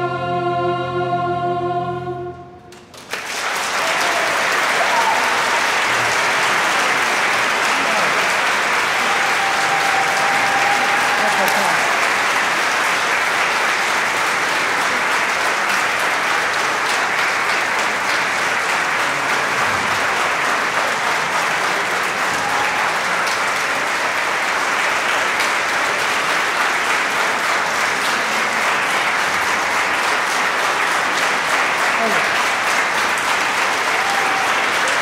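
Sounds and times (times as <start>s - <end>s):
audience applauding: 2.7s - 35.0s.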